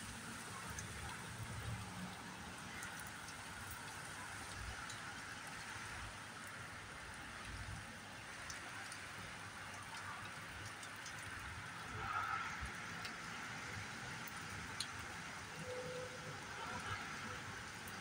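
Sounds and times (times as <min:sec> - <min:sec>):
close raindrops ticking: 0:00.0 - 0:18.0
rain on tree leaves: 0:00.0 - 0:18.0.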